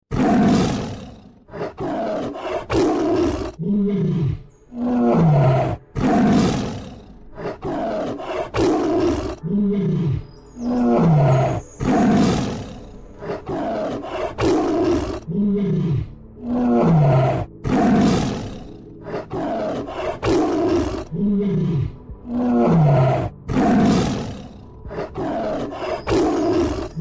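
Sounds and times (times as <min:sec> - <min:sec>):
camel roaring and grumbling: 0:00.1 - 0:27.0.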